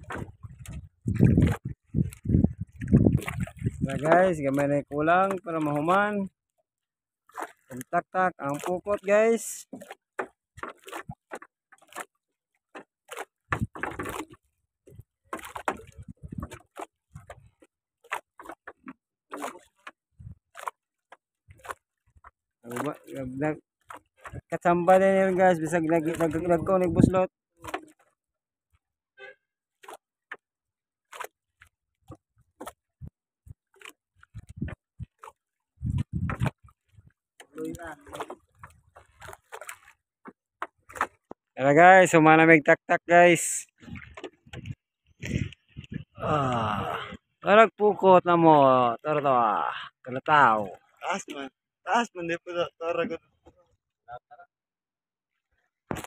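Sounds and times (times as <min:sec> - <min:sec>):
water splashing: 0:00.0 - 0:53.8, 0:55.6 - 0:56.0.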